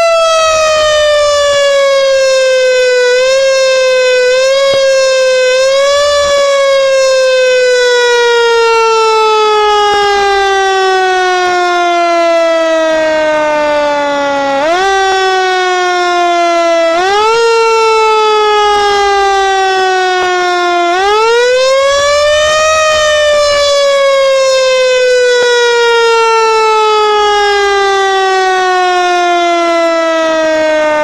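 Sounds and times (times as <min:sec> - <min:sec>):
fire truck siren wailing: 0:00.0 - 0:31.0.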